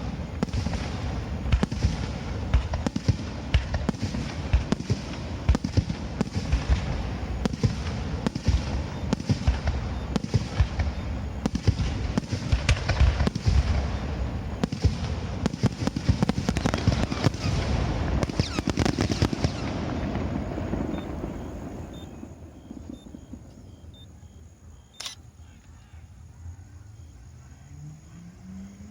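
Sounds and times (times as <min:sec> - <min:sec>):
fireworks booming: 0:00.0 - 0:25.0
fireworks crackle: 0:00.0 - 0:25.2.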